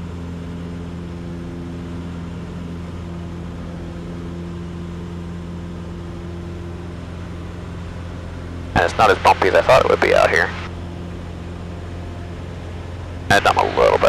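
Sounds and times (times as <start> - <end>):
light aircraft engine drone: 0.0 - 14.0.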